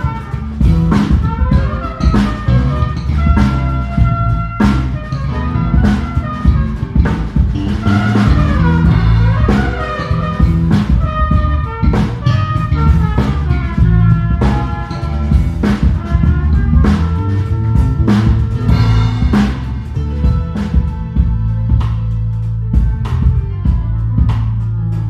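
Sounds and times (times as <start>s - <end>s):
guitar line: 0.0s - 21.8s
drum kit: 0.0s - 25.0s
electric bass: 0.0s - 25.0s.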